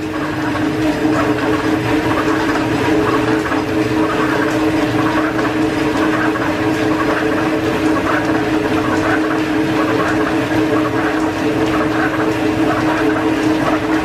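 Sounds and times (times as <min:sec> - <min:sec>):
workshop machinery whining: 0:00.0 - 0:14.0.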